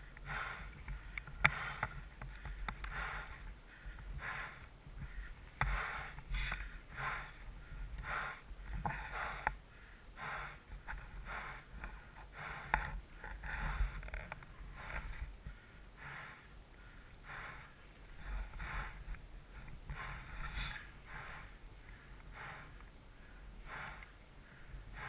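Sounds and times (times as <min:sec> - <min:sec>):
person breathing hard: 0:00.0 - 0:25.0.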